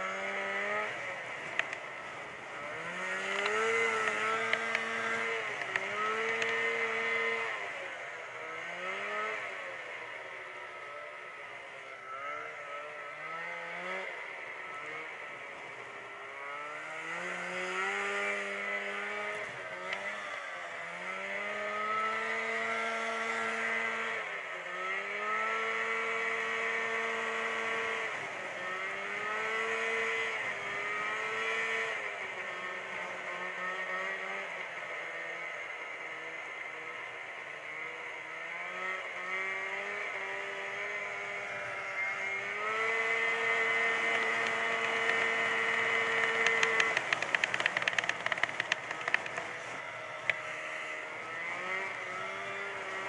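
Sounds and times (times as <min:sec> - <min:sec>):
snowmobile engine revving: 0:00.0 - 0:10.0, 0:10.7 - 0:37.0, 0:37.7 - 0:53.0.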